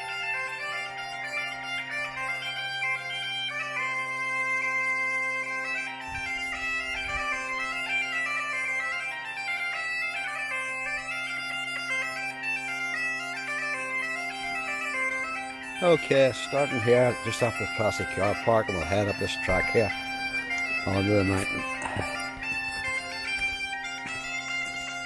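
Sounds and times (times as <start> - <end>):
bagpipe music: 0.0 - 25.0.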